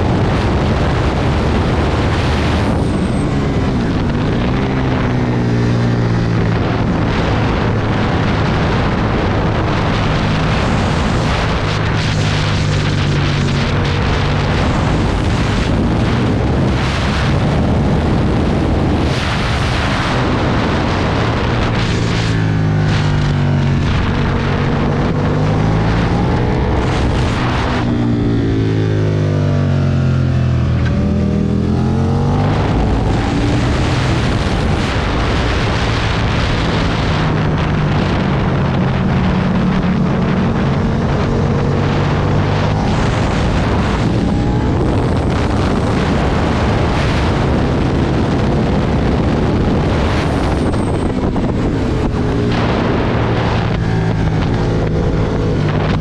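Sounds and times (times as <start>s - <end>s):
motorcycle engine at speed: 0.0s - 56.0s
wind rushing over microphone: 0.0s - 56.0s.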